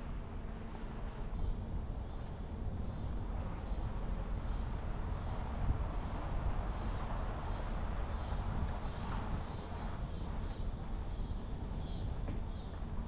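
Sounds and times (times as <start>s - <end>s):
car tyre and engine rumble: 0.0s - 13.0s.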